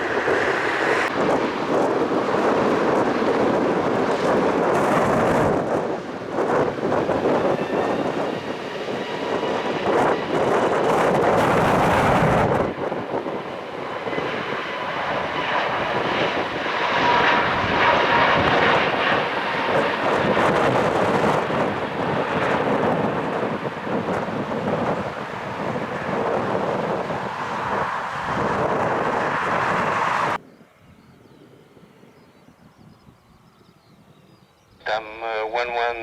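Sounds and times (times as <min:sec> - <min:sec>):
jet engines roaring: 0:00.0 - 0:30.4.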